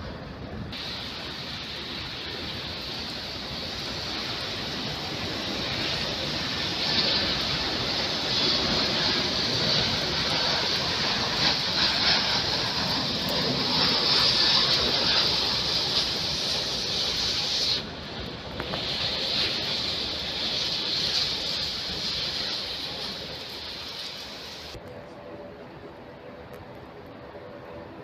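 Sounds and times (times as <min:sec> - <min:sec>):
train moving: 0:00.0 - 0:28.0
hiss: 0:00.7 - 0:24.8.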